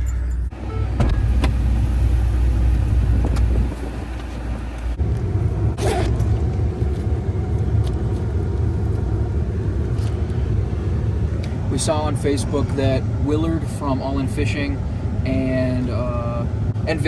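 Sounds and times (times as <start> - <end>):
car cabin engine and road rumble: 0.0 - 17.0.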